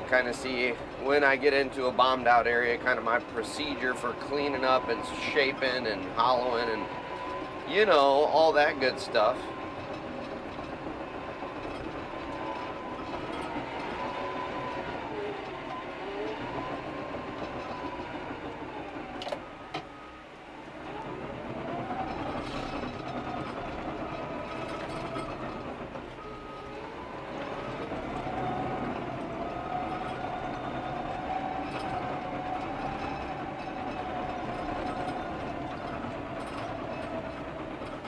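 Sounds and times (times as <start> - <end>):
dozer diesel engine running: 0.0 - 38.0.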